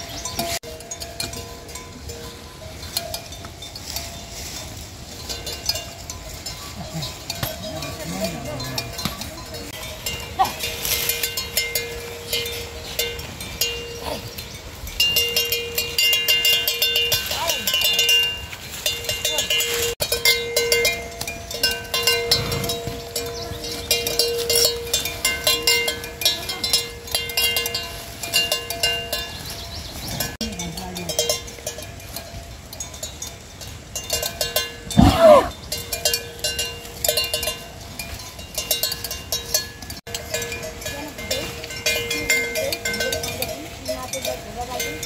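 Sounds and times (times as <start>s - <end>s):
livestock bells clanking: 0.0s - 45.0s.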